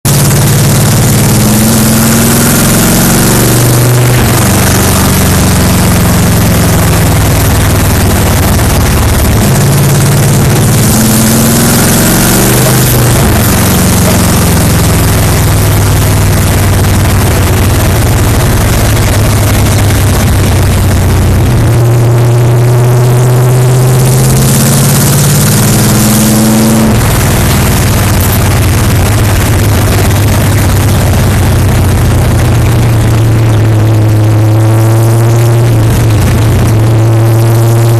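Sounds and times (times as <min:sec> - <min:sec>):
race car engine revving: 0:00.0 - 0:37.9.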